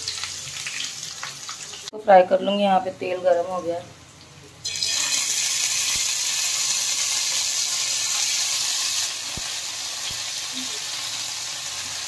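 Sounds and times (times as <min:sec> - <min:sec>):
food sizzling in hot oil: 0:00.0 - 0:01.9, 0:04.1 - 0:12.0.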